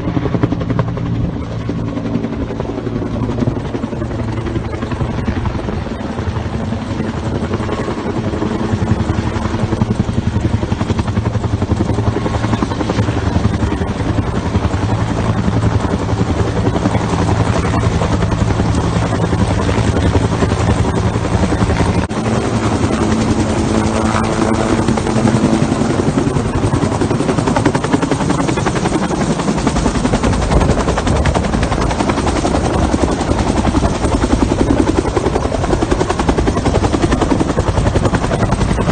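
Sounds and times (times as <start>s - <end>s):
helicopter engine tone: 0.0s - 38.9s
helicopter rotor chopping: 0.0s - 38.9s.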